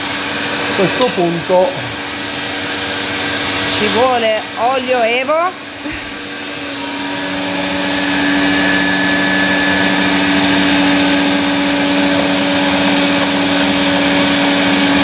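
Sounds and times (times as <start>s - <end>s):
blender motor running: 0.0s - 15.0s.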